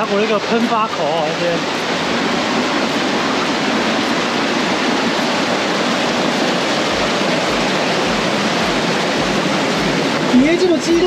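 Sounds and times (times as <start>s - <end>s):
rushing creek water: 0.0s - 11.0s.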